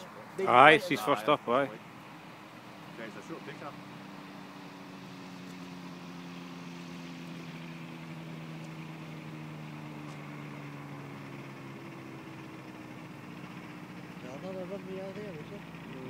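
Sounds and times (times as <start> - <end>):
aircraft engine running: 0.0 - 16.0.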